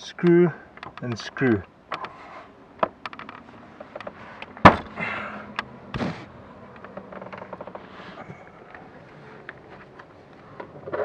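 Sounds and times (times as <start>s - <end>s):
carpet scraping and rustling: 1.0s - 5.0s, 5.9s - 11.0s.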